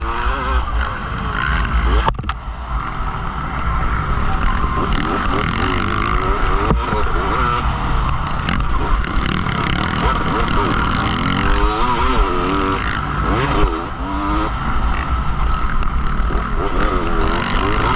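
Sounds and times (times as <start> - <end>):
motorcycle engines revving: 0.0 - 17.9.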